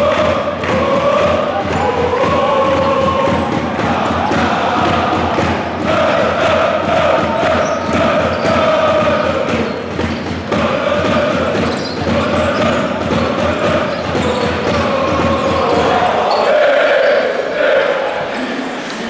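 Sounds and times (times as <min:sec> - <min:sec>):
crowd singing a chant: 0:00.0 - 0:19.0.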